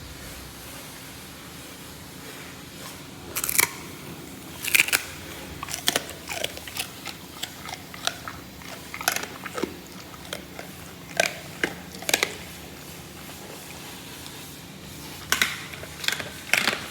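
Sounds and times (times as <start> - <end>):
dog chewing food: 2.9 - 16.9.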